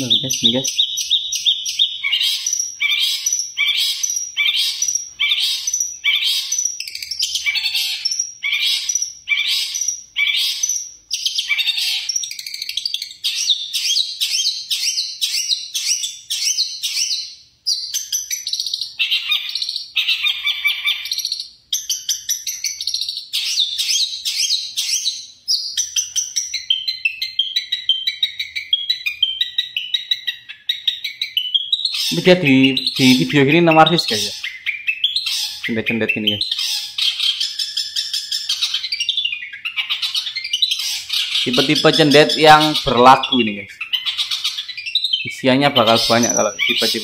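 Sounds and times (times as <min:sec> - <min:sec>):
bird singing: 0:00.0 - 0:47.0.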